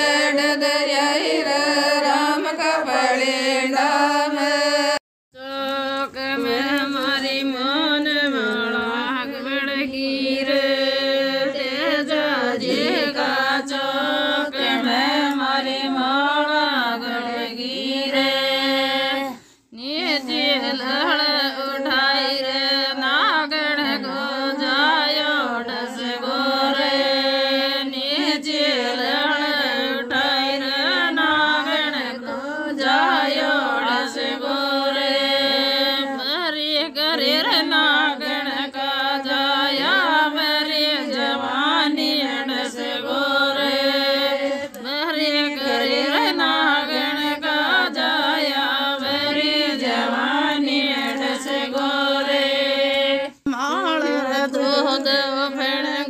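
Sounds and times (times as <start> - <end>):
person singing: 0.0 - 56.0.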